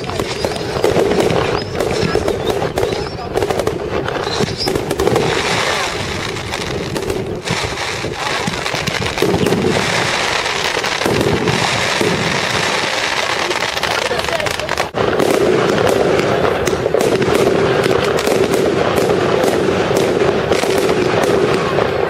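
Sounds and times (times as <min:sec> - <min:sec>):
crowd voices: 0:00.0 - 0:22.0
fireworks crackling and banging: 0:00.0 - 0:22.0.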